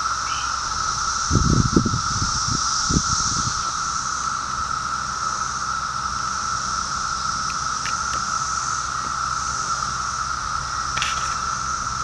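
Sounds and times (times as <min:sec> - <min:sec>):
cicadas droning chorus: 0:00.0 - 0:12.0.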